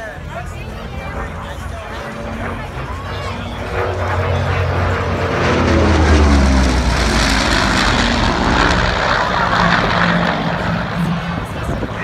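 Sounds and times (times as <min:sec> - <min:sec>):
propeller plane engine passing: 0:00.0 - 0:12.0.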